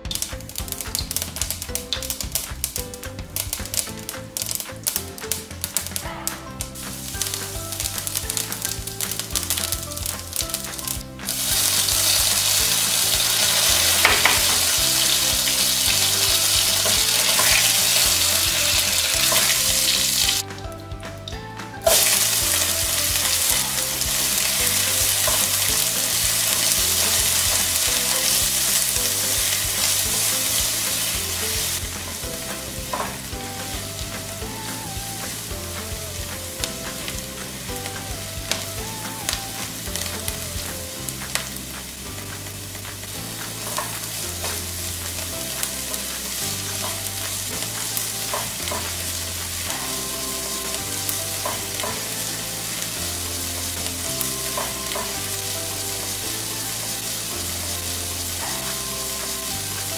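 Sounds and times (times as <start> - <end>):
onions sizzling in oil: 0.0 - 20.4, 21.2 - 59.9
soft background music: 0.0 - 59.9.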